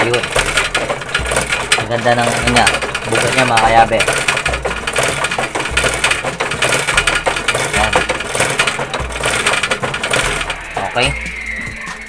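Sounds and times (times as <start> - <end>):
fuel injector clicking rapidly: 0.0 - 11.2.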